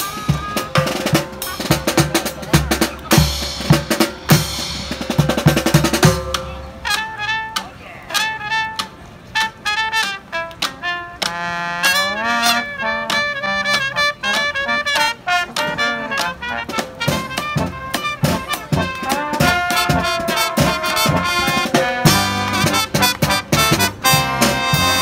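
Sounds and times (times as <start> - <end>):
brass marching band playing: 0.0 - 25.0.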